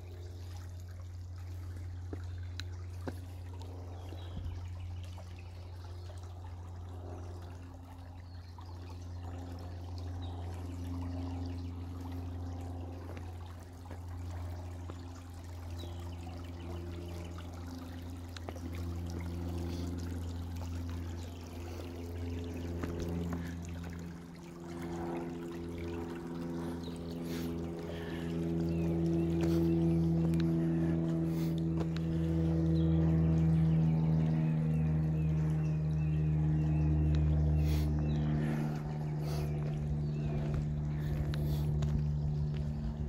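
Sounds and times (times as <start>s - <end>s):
creek water trickling over stones: 0.0s - 43.0s.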